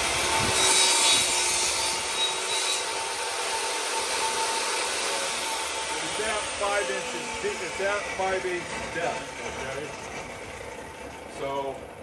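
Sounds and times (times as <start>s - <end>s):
table saw cutting wood: 0.0s - 11.1s.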